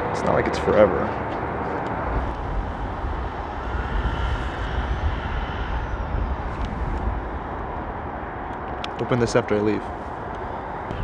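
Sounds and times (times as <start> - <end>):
faint whine: 0.0 - 11.0
low outdoor rumble: 0.0 - 11.0.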